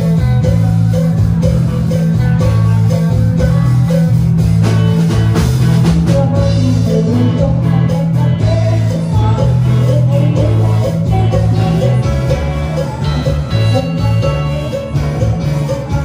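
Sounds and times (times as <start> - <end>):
loud dance music with guitar: 0.0 - 16.0.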